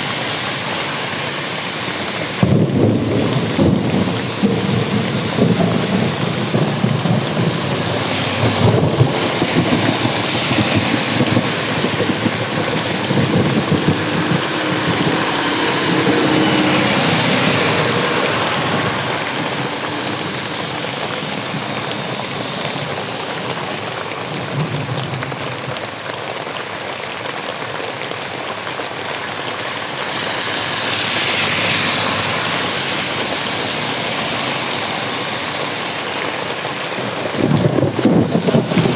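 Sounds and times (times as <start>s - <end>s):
heavy rain: 0.0s - 38.9s
traffic on wet road: 0.0s - 38.9s
thunder rumbling: 2.0s - 26.4s, 30.5s - 38.9s.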